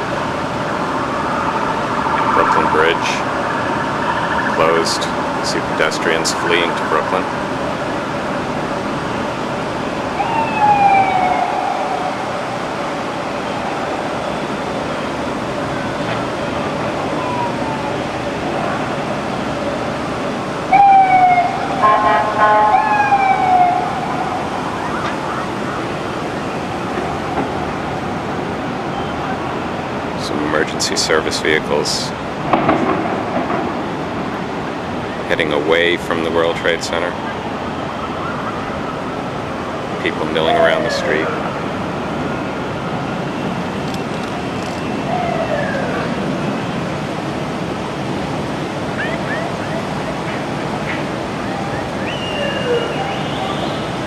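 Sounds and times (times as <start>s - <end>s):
emergency vehicle siren: 0.0s - 31.2s, 32.1s - 54.0s
city traffic noise: 0.0s - 54.0s.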